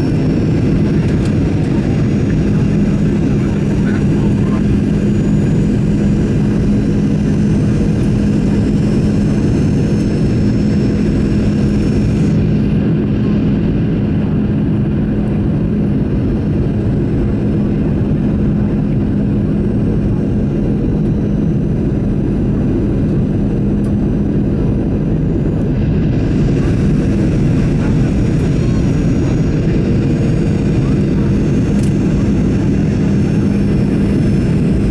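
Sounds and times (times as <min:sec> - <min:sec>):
aircraft cabin engine and airflow noise: 0:00.0 - 0:34.9.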